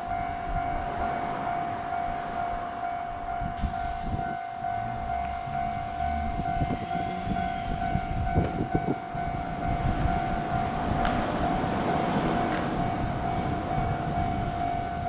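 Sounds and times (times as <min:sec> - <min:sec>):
high-pitched tone: 0:00.0 - 0:15.0
train rumbling: 0:00.0 - 0:15.0.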